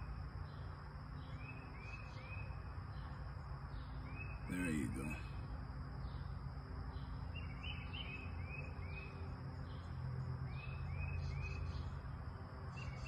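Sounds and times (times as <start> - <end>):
low background hum: 0.0 - 12.8
bird chirping: 0.0 - 13.0.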